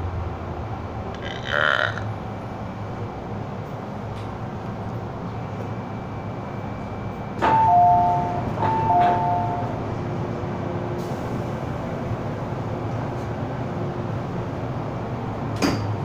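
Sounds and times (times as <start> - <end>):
train carriage noise: 0.0 - 16.0.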